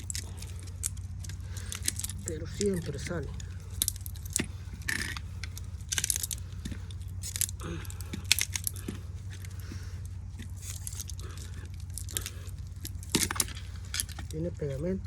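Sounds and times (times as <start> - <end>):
steady low hum: 0.0 - 15.0
wire crackling and scraping: 0.0 - 15.0.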